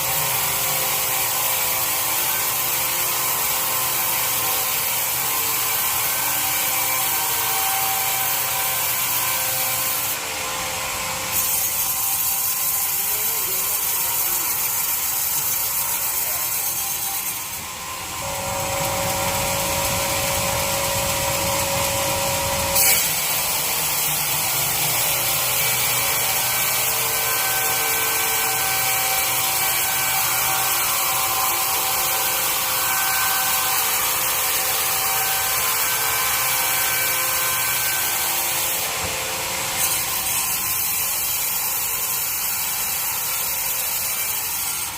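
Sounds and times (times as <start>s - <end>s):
bandsaw cutting log: 0.0s - 44.9s.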